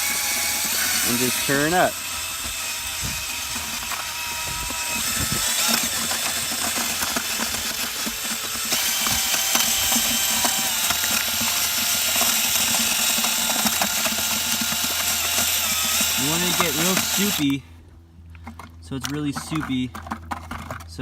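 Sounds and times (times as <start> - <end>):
electric cement mixer running: 0.0 - 17.5.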